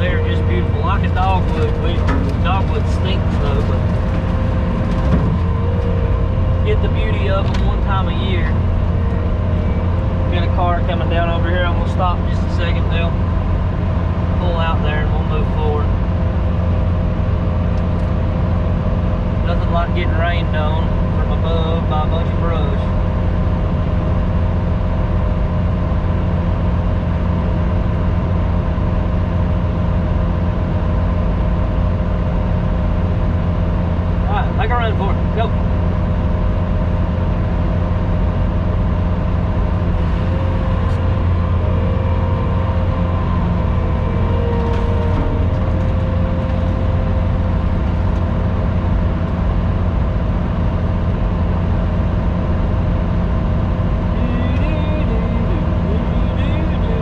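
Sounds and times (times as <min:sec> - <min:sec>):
skid steer engine running: 0:00.0 - 0:57.0.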